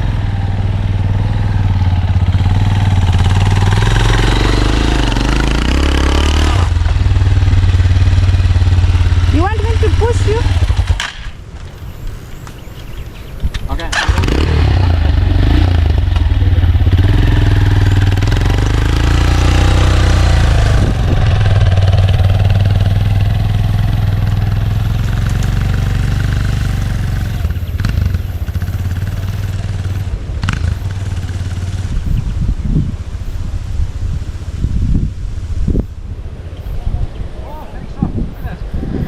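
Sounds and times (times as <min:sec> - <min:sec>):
motorcycle engine under load: 0:00.0 - 0:12.0, 0:13.7 - 0:33.1.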